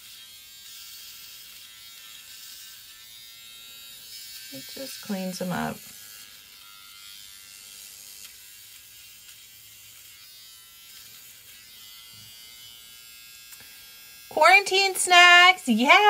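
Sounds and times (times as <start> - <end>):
hair remover buzzing: 0.0 - 16.0.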